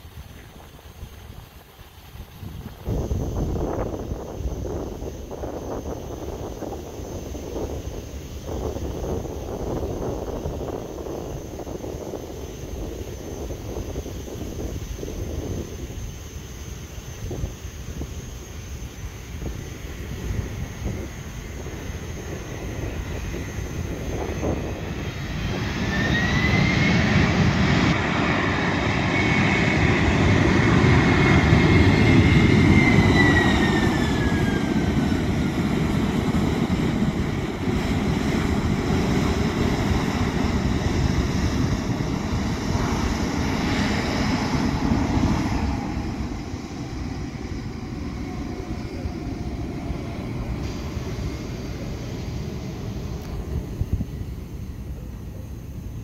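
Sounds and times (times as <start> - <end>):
jet engines passing: 0.0 - 56.0.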